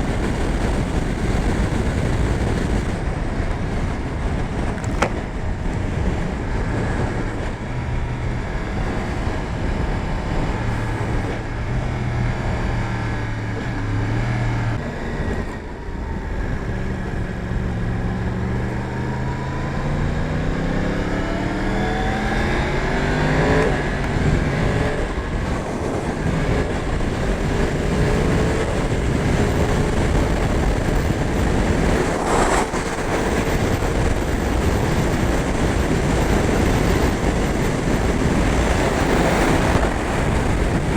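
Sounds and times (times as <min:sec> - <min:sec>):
motorcycle engine revving: 0:00.0 - 0:40.9
wind rushing: 0:00.0 - 0:40.9.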